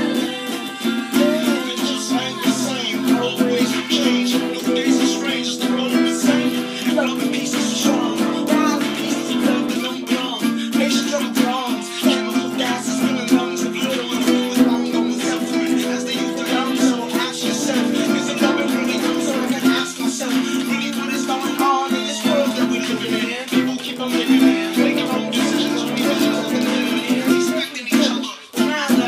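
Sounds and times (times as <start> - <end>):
classical guitar strummed and picked: 0.0 - 29.0.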